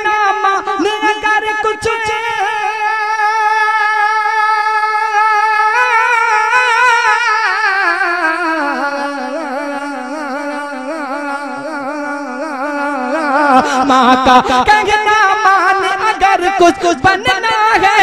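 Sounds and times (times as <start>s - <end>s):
person singing a long vowel: 0.0s - 18.0s.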